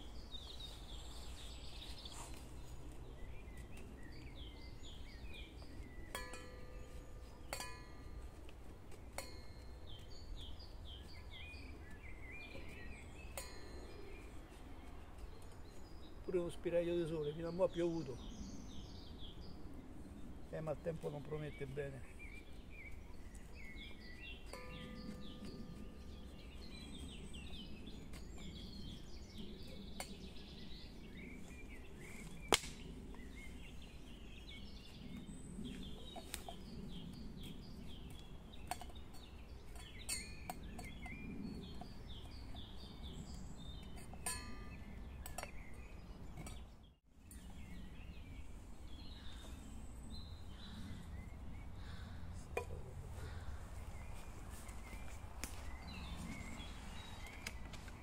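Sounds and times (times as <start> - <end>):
woodland birds chirping: 0.0 - 58.0.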